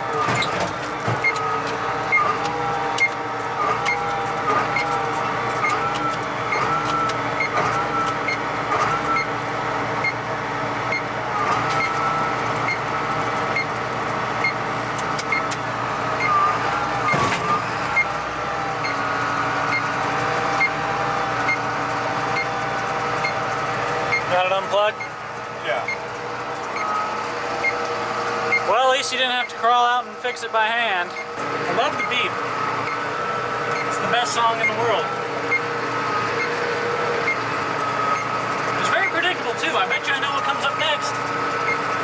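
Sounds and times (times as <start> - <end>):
tractor engine running under load: 0.0 - 42.0
monitor beeping: 0.4 - 9.4, 10.0 - 10.2, 10.9 - 15.6, 16.2 - 42.0.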